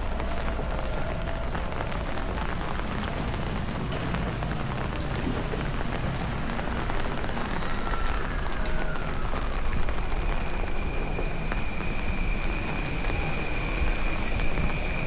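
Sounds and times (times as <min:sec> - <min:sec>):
rain on street surfaces: 0:00.0 - 0:15.0.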